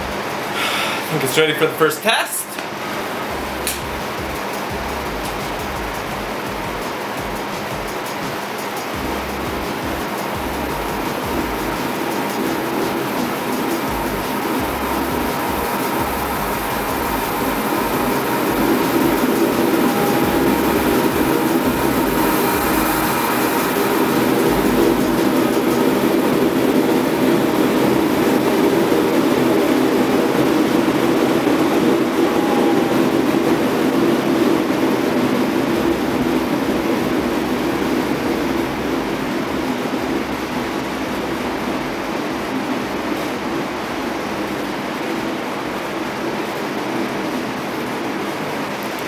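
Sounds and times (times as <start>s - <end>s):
forge burner roaring: 0.0s - 49.0s.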